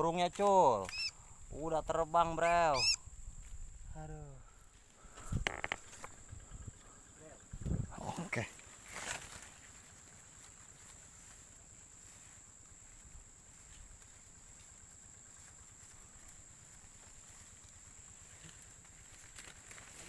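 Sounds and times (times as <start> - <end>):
high-pitched insect drone: 0.0 - 20.0
leafy branches rustling: 0.0 - 20.0.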